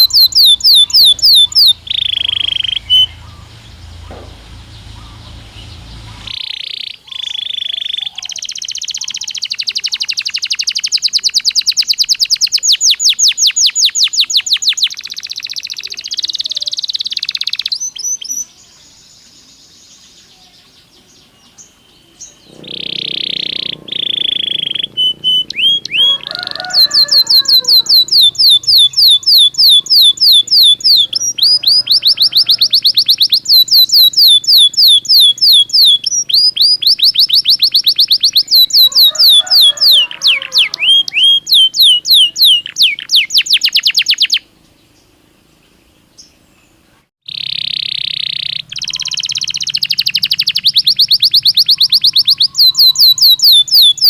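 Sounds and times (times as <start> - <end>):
canary singing: 0.0 - 44.5, 47.3 - 54.0.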